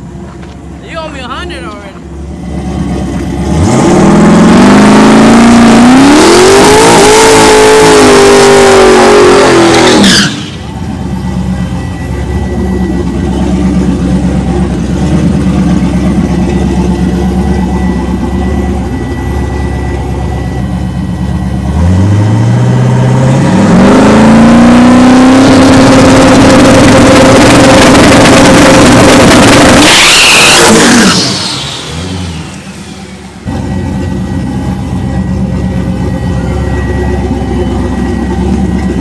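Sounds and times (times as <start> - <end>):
race car engine revving: 2.0 - 39.0.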